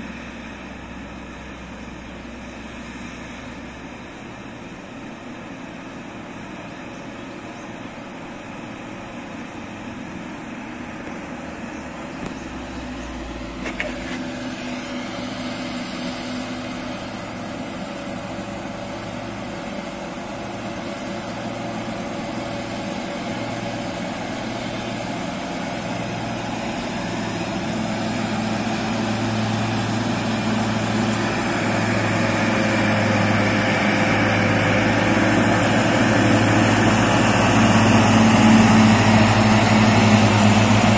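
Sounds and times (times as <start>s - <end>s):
truck diesel engines running: 0.0s - 40.9s.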